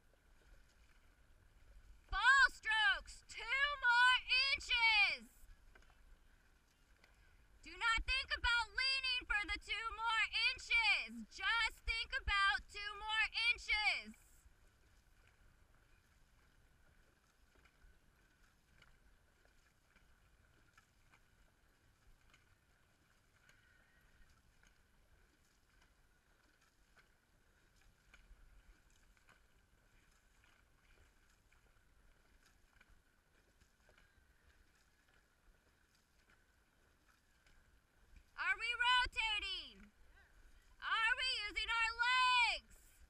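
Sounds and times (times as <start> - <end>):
faint water noise: 0.0 - 43.0.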